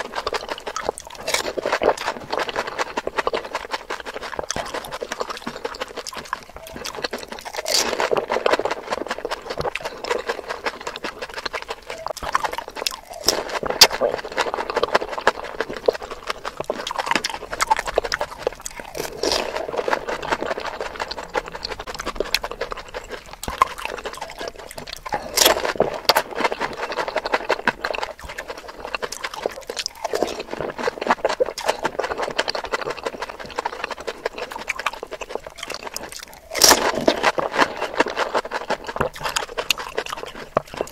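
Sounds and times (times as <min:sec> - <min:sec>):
crisp shells crunching: 0:00.0 - 0:40.9
wet chewing and slurping: 0:00.0 - 0:40.9.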